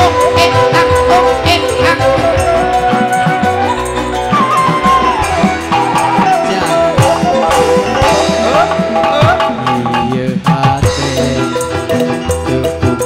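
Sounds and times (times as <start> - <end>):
hand drums in quick rhythm: 0.0 - 13.0
keyboard: 0.0 - 13.0
live band music: 0.0 - 13.0.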